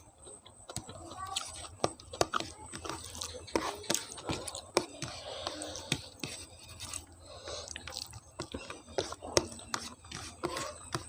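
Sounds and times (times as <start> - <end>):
wet chewing with mouth clicks: 0.0 - 11.0.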